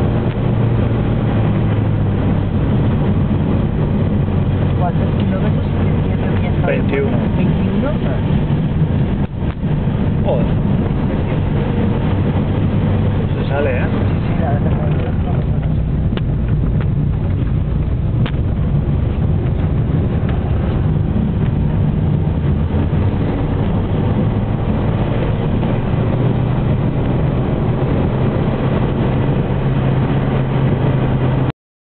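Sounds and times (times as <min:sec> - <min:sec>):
car engine and road noise: 0:00.0 - 0:31.5.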